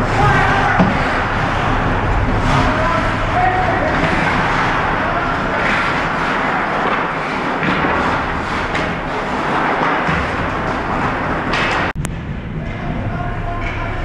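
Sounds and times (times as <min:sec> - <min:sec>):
ice hockey rink noise: 0:00.0 - 0:14.0.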